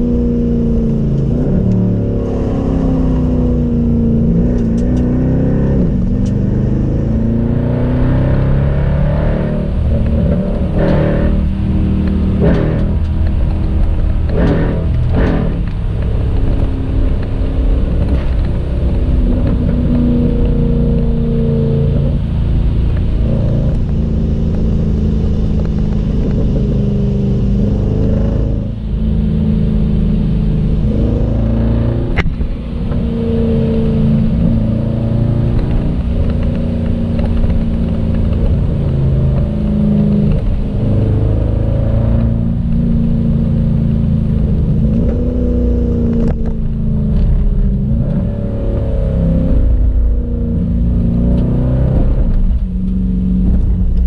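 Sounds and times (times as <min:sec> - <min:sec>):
car engine and exhaust drone: 0:00.0 - 0:54.0.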